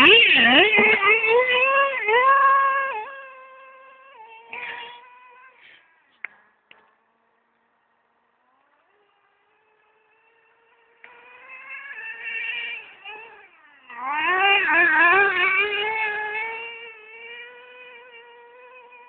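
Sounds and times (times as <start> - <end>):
model engine buzzing at high revs: 0.0 - 19.0.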